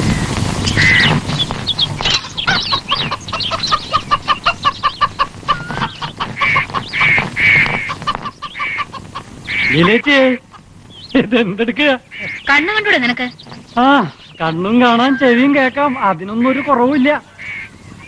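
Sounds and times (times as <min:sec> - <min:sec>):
chicken cackling calls: 0:00.0 - 0:11.2, 0:11.9 - 0:18.0
chickens clucking: 0:00.0 - 0:18.0.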